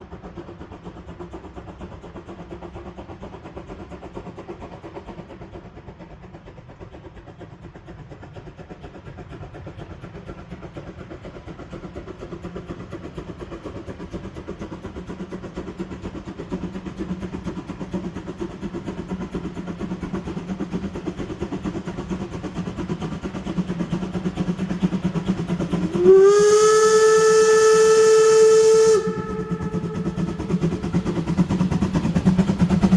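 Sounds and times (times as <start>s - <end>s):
steam locomotive exhaust beat: 0.0s - 32.9s.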